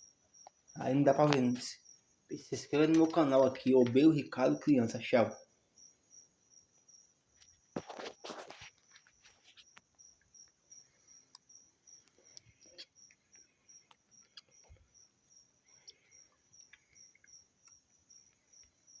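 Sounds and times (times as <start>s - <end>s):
insect chirping: 0.0s - 19.0s.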